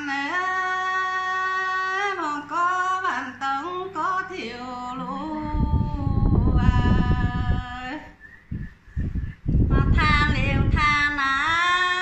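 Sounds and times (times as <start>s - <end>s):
woman singing folk song: 0.0s - 8.2s, 9.7s - 12.0s.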